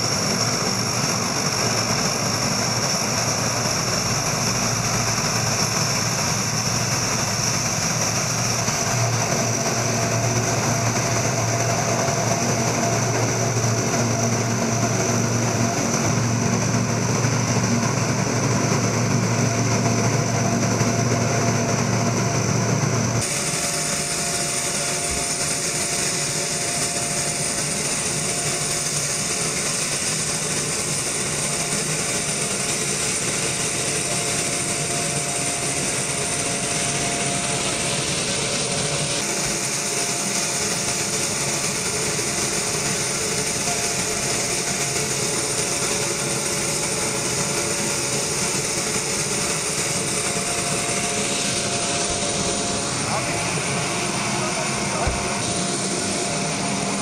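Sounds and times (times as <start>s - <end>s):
harsh hiss with high whine: 0.0s - 21.0s, 23.1s - 57.0s
turboprop engines running: 0.0s - 57.0s.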